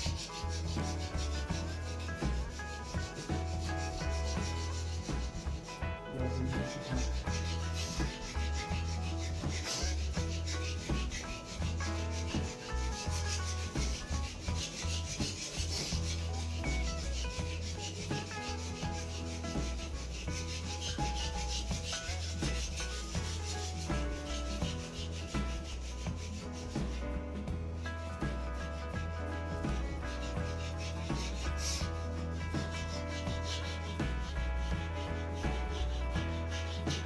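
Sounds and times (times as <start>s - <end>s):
background music: 0.0s - 37.0s
sandpaper rubbing wood: 0.0s - 37.0s.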